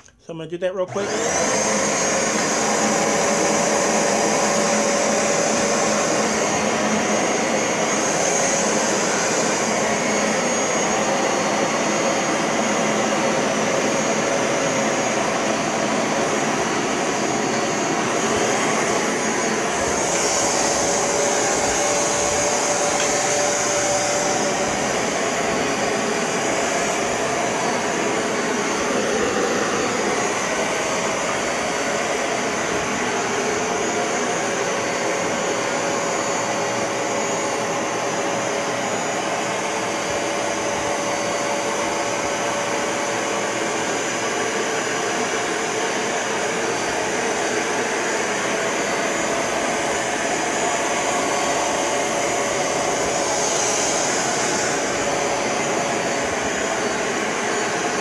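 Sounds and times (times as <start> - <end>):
carpet cleaner motor whine: 0.9 - 58.0.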